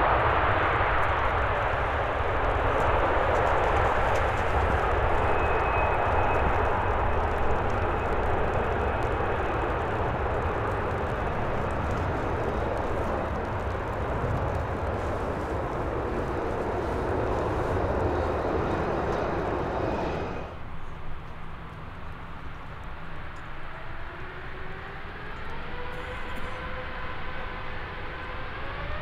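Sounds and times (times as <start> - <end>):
high whine: 0.0 - 29.0
jet engine roaring: 0.0 - 29.0.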